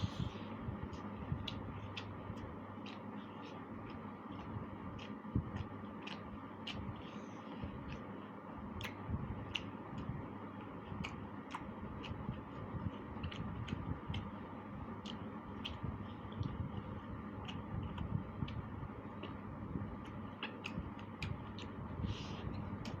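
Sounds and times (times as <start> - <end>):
chewing food: 0.0 - 23.0
mouth clicks and smacks: 0.1 - 23.0.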